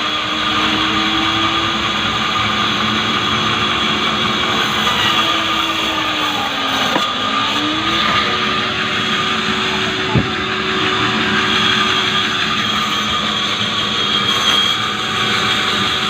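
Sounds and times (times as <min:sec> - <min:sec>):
saw blade cutting wood: 0:00.0 - 0:16.0.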